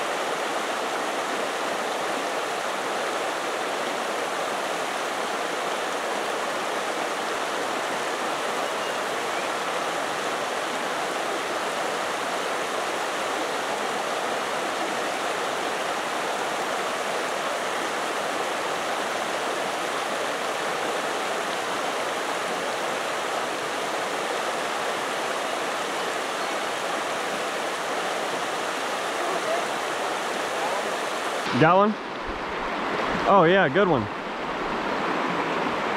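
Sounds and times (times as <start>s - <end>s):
creek water rushing: 0.0s - 35.9s.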